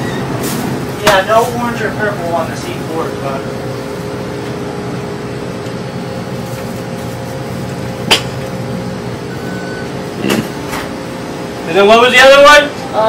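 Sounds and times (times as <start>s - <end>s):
refrigerator cooler hum: 0.0s - 13.0s.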